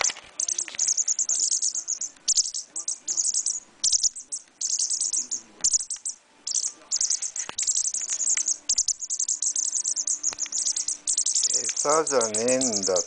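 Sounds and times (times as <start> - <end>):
bird chick chirping: 0.0 - 13.0.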